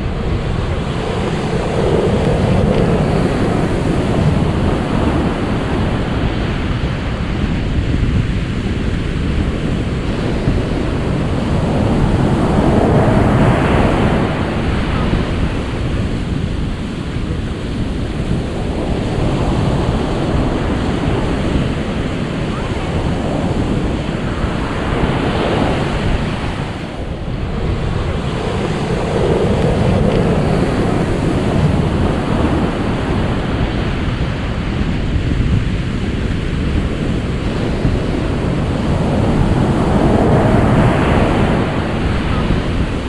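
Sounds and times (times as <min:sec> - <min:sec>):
ocean surf washing in: 0:00.0 - 0:43.0
wind rumbling on microphone: 0:00.0 - 0:43.0.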